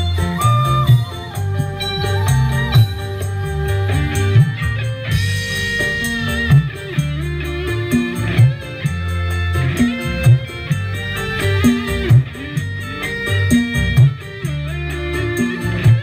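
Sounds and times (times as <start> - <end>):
song with guitar and heavy bass: 0.0 - 16.0.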